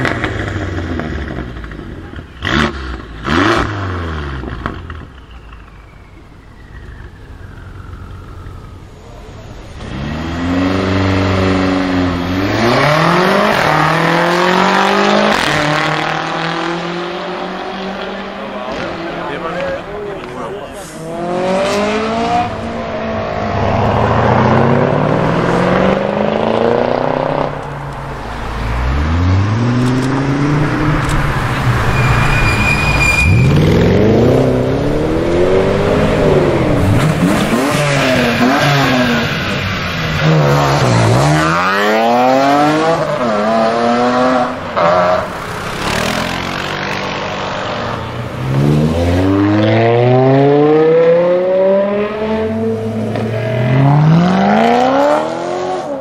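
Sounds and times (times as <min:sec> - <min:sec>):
car engines accelerating hard: 0:00.0 - 0:05.1, 0:07.2 - 0:32.2, 0:33.4 - 0:56.0
car passing at full throttle: 0:09.3 - 0:56.0.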